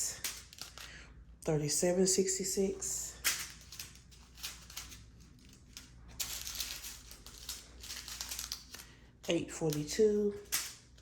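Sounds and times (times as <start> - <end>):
plastic baggies rustling: 0.0 - 11.0.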